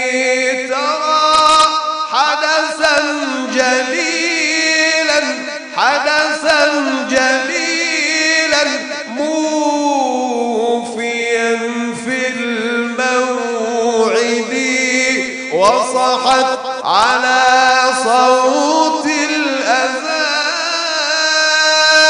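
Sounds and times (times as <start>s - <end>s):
man chanting religious song: 0.0s - 22.0s.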